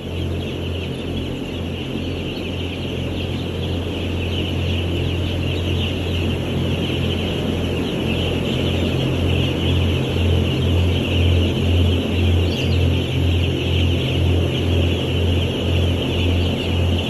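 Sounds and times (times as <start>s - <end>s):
chicks peeping: 0.0s - 17.0s
ventilation fans humming: 0.0s - 17.0s.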